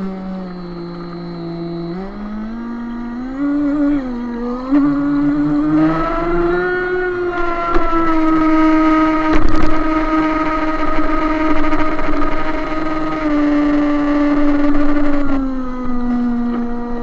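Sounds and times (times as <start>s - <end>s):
model boat motor whining: 0.0s - 17.0s.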